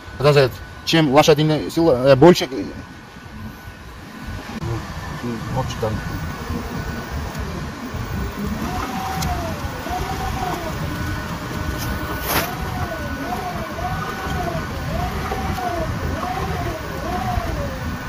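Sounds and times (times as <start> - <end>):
electric motor whine: 0.0 - 18.0
steady rumble: 0.0 - 18.0.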